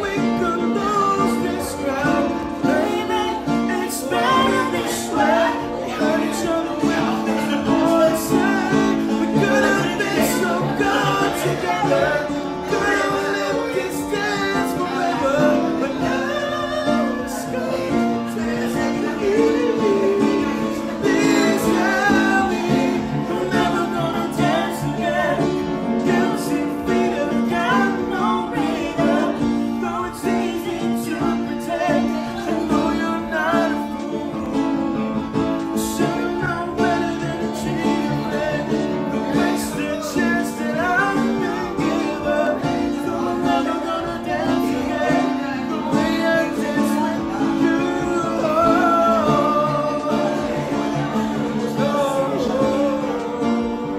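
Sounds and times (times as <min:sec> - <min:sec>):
acoustic guitar: 0:00.0 - 0:53.9
man and woman singing: 0:00.0 - 0:53.9
piano: 0:00.0 - 0:53.9.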